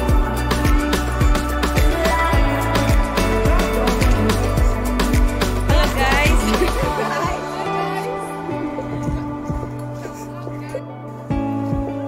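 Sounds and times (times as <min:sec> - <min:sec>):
background music with deep drum beat: 0:00.0 - 0:07.8, 0:08.4 - 0:12.0.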